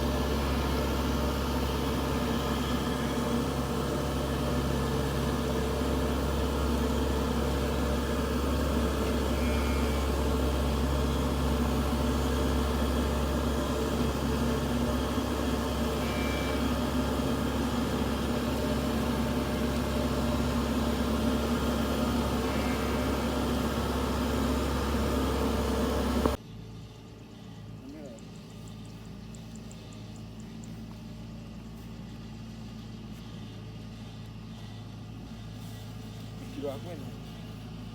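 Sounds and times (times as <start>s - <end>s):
combine harvester engine humming: 0.0s - 37.9s.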